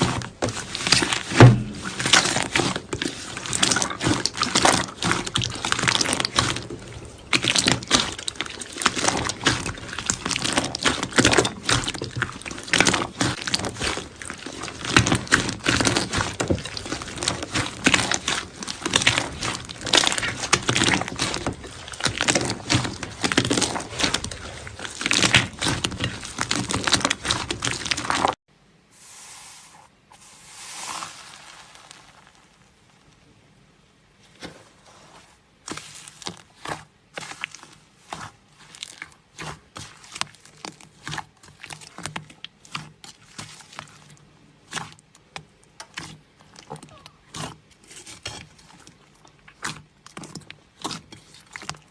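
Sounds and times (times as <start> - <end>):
slime crackling and popping: 0.0 - 28.4, 35.7 - 51.9.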